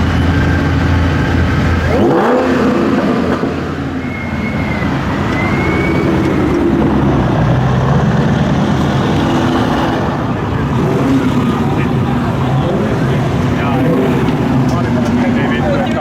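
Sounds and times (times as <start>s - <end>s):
car engines idling: 0.0s - 16.0s.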